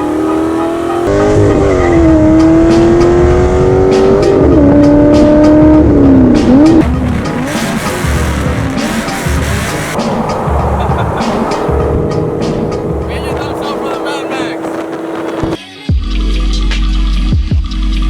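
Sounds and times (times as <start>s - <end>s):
car engine wailing: 0.0s - 15.6s
music with a steady beat: 2.0s - 14.0s, 14.8s - 18.0s.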